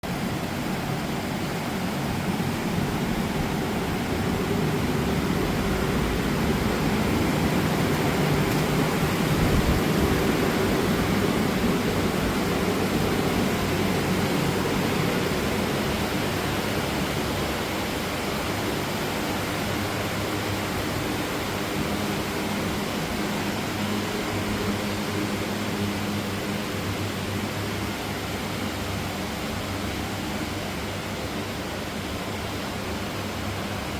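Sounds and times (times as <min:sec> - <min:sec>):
electric fans blowing air: 0:00.0 - 0:33.9.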